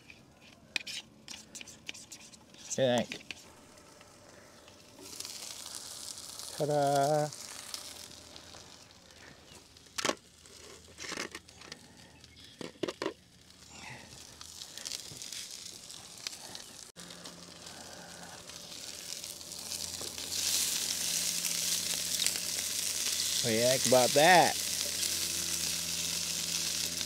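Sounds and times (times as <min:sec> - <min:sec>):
rustles: 0:00.0 - 0:23.5
sausages sizzling in a pan: 0:03.5 - 0:12.6, 0:13.2 - 0:27.0.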